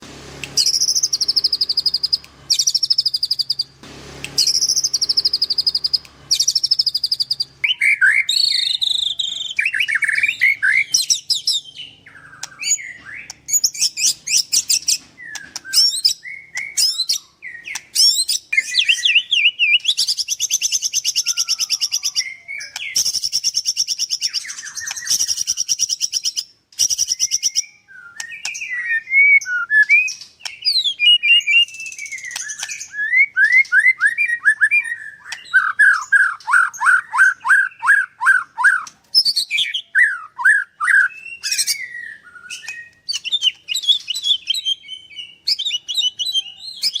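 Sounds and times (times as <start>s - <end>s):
bird whistled notes: 0.5s - 3.7s, 4.3s - 47.0s
bird singing rattling trills: 0.5s - 3.8s, 4.4s - 47.0s.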